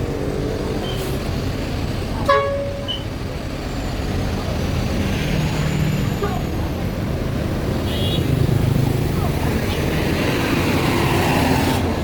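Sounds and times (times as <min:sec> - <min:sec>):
buses idling: 0:00.0 - 0:12.0.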